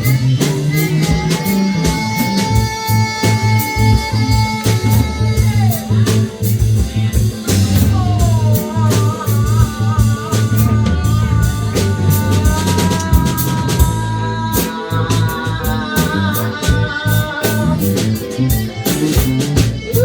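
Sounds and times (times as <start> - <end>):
bass groove: 0.0 - 20.0
drum beats: 0.0 - 20.0
lead guitar sliding notes: 0.0 - 20.0.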